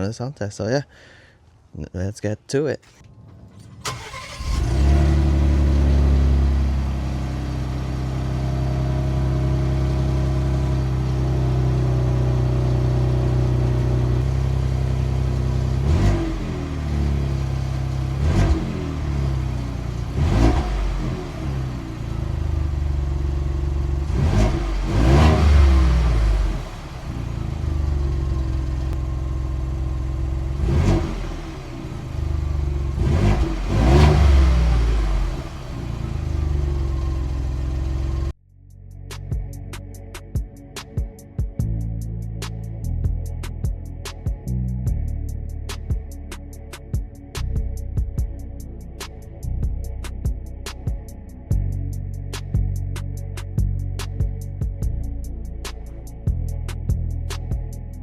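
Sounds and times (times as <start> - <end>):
car engine idling and revving: 3.0 - 38.4, 42.2 - 58.0.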